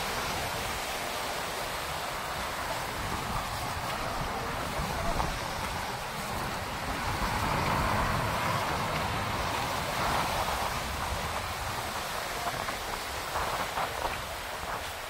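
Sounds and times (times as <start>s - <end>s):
sea waves breaking over rocks: 0.0s - 15.0s
wind buffeting microphone: 0.0s - 15.0s.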